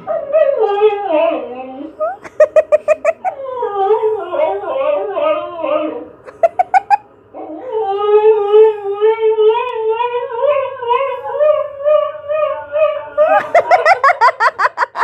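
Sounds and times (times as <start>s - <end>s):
dog howling: 0.0s - 2.2s, 3.2s - 6.2s, 7.3s - 14.4s
dog crying: 0.0s - 15.0s.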